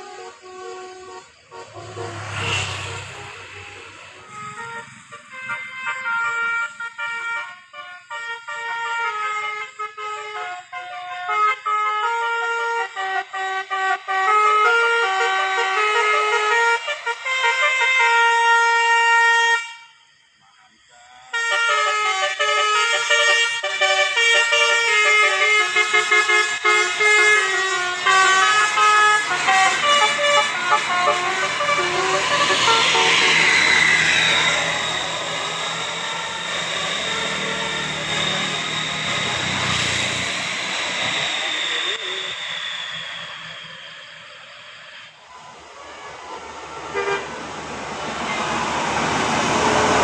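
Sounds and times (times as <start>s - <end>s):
multi-tone musical air horns: 0.0s - 20.0s, 21.2s - 50.0s.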